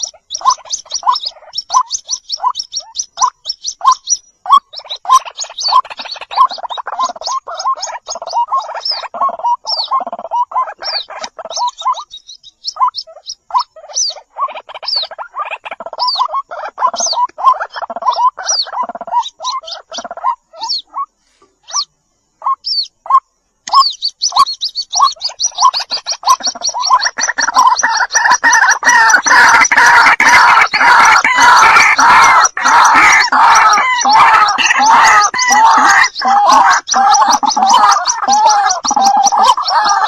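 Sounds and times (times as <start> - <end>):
bird chicks calling: 0.0 - 40.0.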